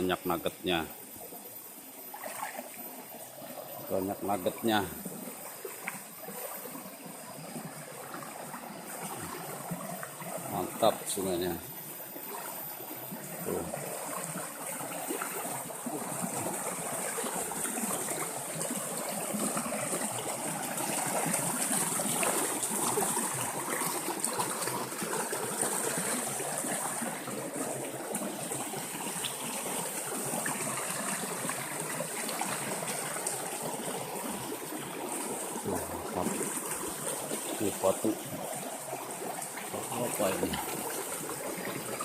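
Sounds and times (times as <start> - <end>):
river water flowing over rocks: 0.0 - 42.0.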